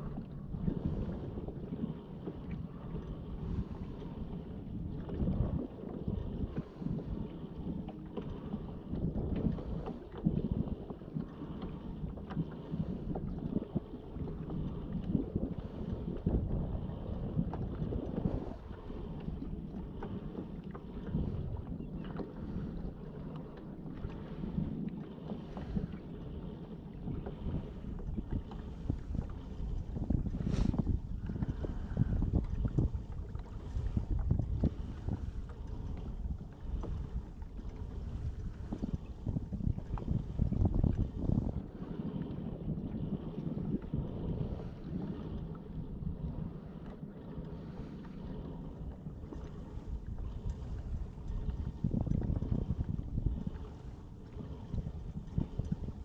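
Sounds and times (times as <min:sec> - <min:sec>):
water lapping against hull: 0:00.0 - 0:56.0
wind rumbling on microphone: 0:00.0 - 0:56.0.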